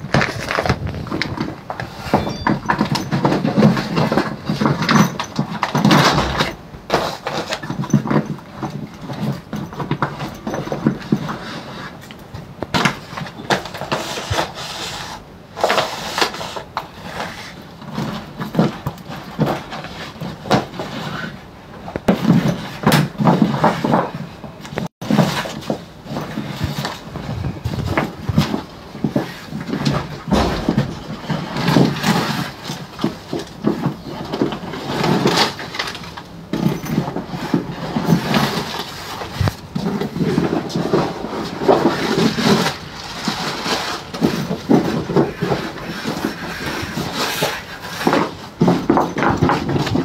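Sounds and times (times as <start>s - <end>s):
rustling and bumping of handling: 0.0s - 50.0s.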